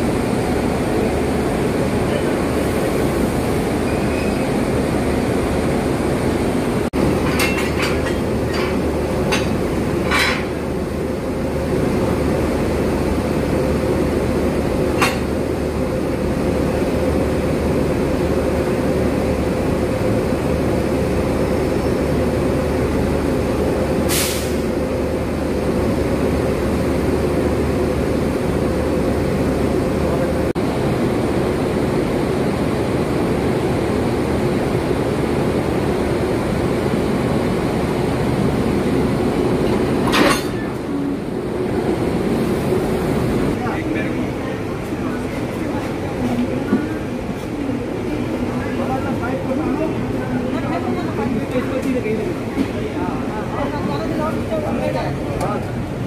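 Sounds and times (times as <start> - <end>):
electric locomotive humming: 0.0 - 56.0.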